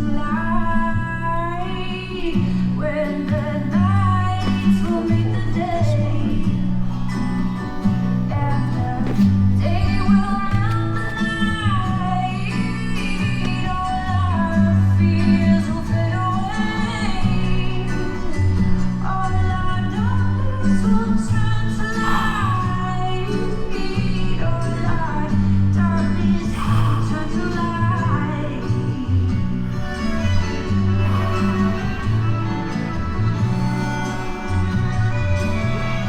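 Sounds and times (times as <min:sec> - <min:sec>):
song with vocals guitar and bass: 0:00.0 - 0:36.0.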